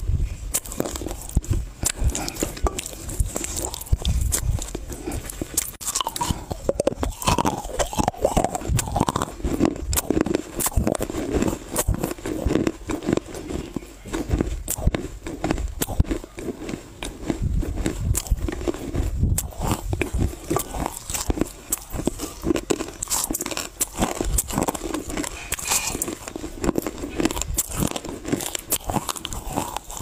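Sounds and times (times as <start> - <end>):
chewing gritty clay: 0.0 - 30.0
wet mouth sounds: 0.0 - 30.0.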